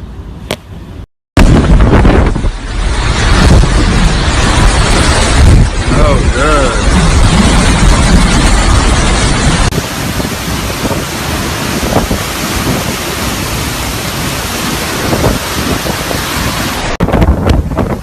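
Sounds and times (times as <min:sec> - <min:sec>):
hurricane wind: 0:00.0 - 0:18.0
driving rain: 0:01.4 - 0:18.0
wind buffeting microphone: 0:01.4 - 0:18.0.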